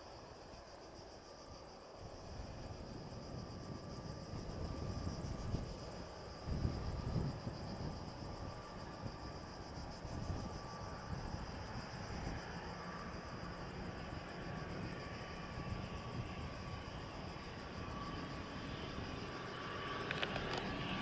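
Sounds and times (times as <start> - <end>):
insects chirping: 0.0 - 21.0
wind rumble on microphone: 1.5 - 21.0.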